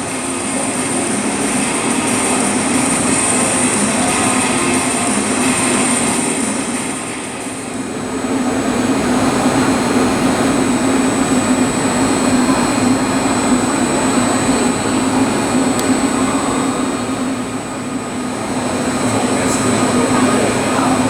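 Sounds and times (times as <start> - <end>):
machinery hum with blower whir: 0.0 - 21.0.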